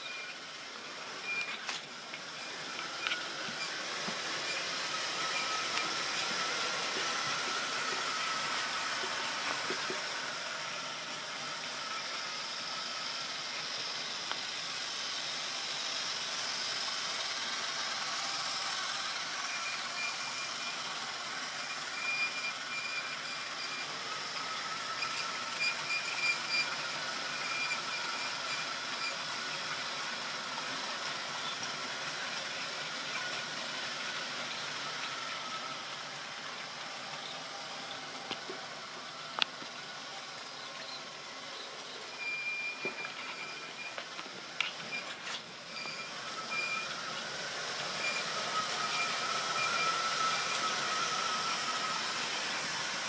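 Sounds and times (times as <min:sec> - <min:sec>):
model train rolling hiss: 0:00.4 - 0:42.4, 0:43.5 - 0:53.0.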